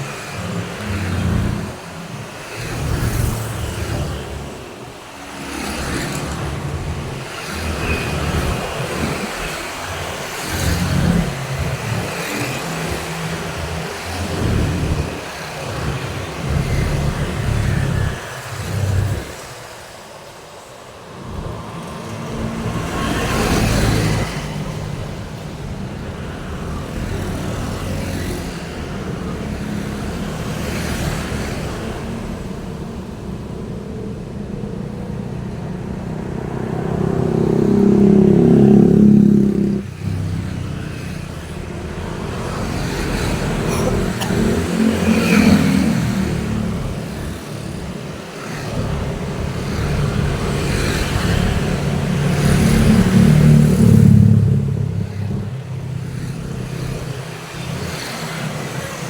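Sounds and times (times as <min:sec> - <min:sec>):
loud car engine passing: 0:00.0 - 0:19.7, 0:21.0 - 0:59.0
road traffic passing: 0:00.0 - 0:59.0.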